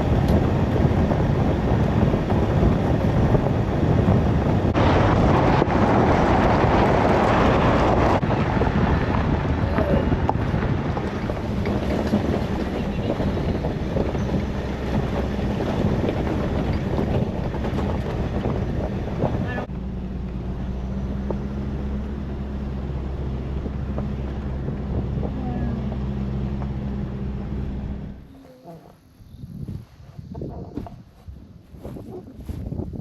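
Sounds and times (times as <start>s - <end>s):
steady low rumble: 0.0s - 33.0s
wind buffeting microphone: 0.0s - 33.0s.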